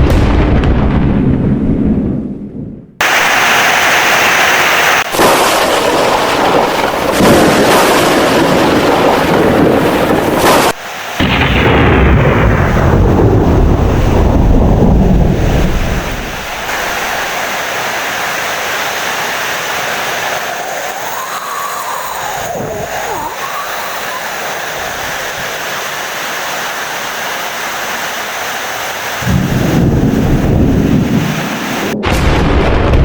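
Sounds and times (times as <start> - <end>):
deep thunder rumbles: 0.0 - 3.3, 5.0 - 25.7, 29.0 - 33.0
heavy rain: 3.0 - 32.6.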